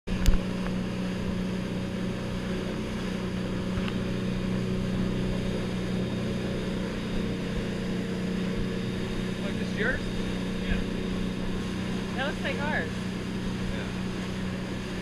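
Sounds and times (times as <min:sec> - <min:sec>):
outboard motors droning: 0:00.1 - 0:15.0
rushing wind and water: 0:00.1 - 0:15.0.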